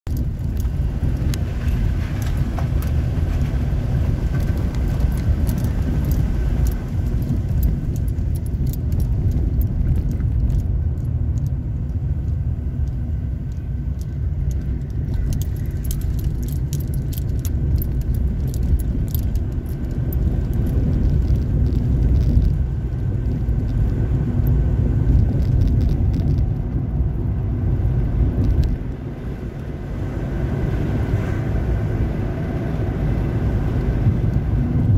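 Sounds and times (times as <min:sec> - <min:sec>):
car engine and tyre rumble: 0:00.0 - 0:34.9
light clicks and rattles: 0:00.1 - 0:27.4, 0:28.2 - 0:29.0.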